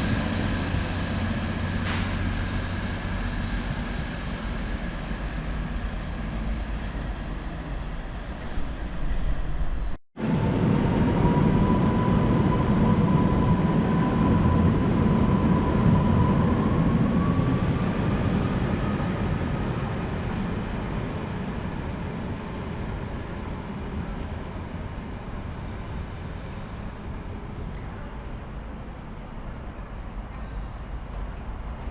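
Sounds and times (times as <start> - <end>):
train rumbling: 0.0 - 31.9.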